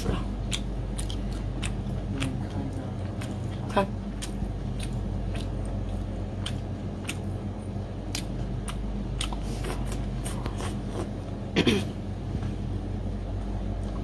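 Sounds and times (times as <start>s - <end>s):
chewing with wet smacks: 0.0s - 11.4s.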